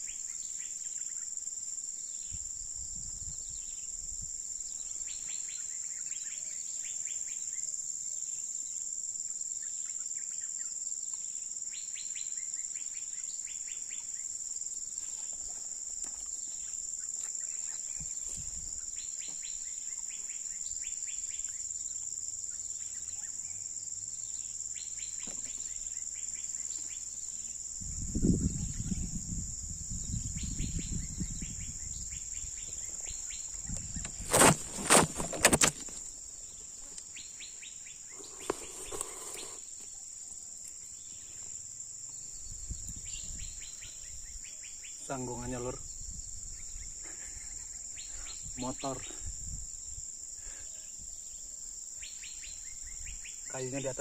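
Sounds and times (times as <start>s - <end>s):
insect trills: 0.0s - 54.0s
insects droning: 0.0s - 54.0s.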